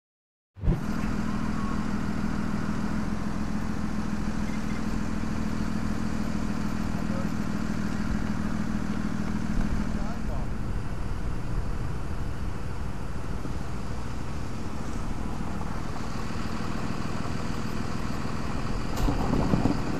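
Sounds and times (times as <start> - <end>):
fire truck engine idling: 0.8 - 19.9.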